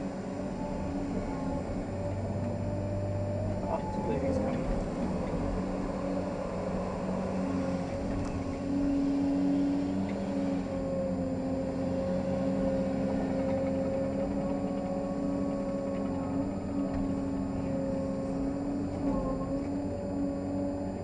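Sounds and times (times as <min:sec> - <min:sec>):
excavator engine drone with whine: 0:00.0 - 0:21.0.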